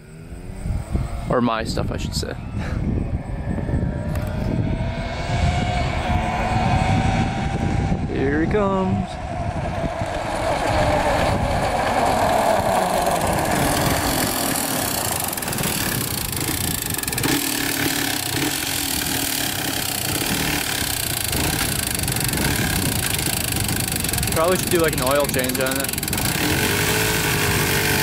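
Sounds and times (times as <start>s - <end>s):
two-stroke quad engine revving: 4.0s - 28.0s.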